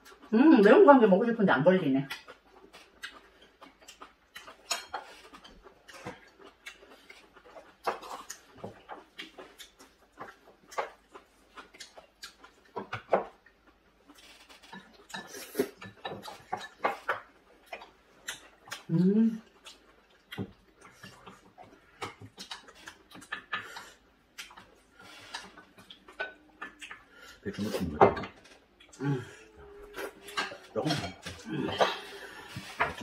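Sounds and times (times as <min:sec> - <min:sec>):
chewing and lip-smacking: 0:00.0 - 0:00.3, 0:02.0 - 0:33.0.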